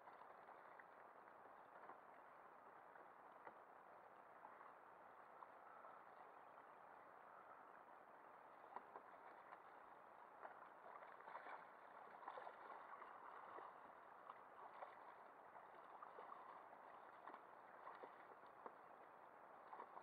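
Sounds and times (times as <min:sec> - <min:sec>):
water lapping against kayak hull: 0:00.0 - 0:20.0.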